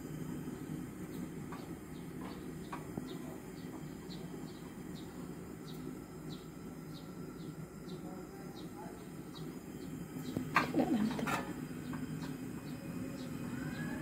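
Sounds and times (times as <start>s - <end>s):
small birds chirping: 1.8s - 14.0s.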